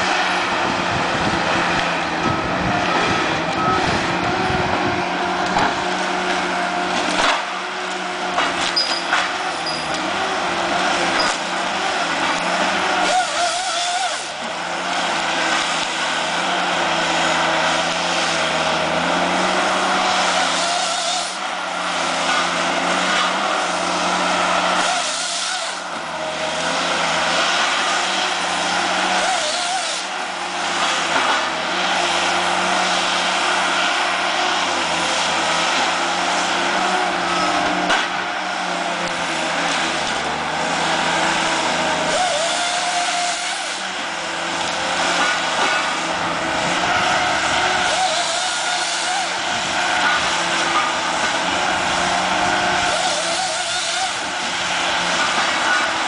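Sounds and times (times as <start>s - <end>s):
diesel engine under load: 0.0s - 56.0s
hydraulics working: 0.0s - 56.0s.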